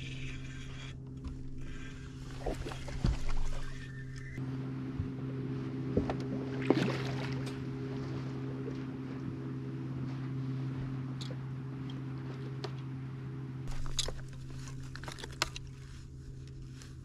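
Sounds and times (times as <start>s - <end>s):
electric trolling motor humming: 0.0s - 17.0s.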